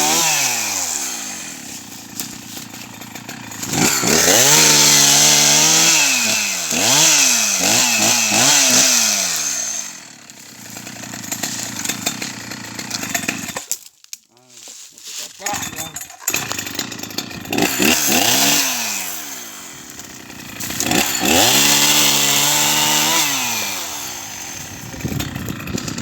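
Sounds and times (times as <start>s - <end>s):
chainsaw revving and idling: 0.0s - 13.8s, 15.3s - 26.0s.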